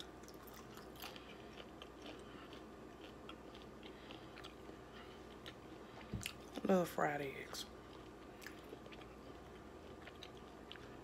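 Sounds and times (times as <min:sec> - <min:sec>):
person chewing food: 0:00.0 - 0:06.7, 0:07.7 - 0:11.0.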